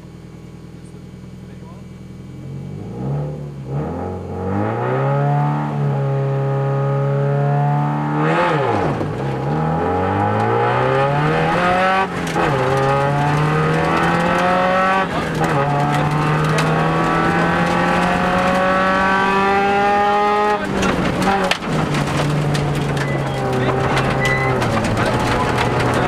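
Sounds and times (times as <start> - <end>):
car engine revving hard: 2.4 - 26.0.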